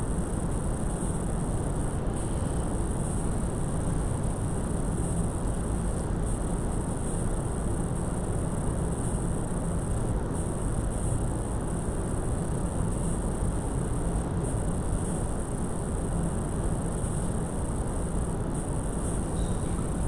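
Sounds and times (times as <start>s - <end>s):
low room rumble with hiss: 0.0s - 20.0s.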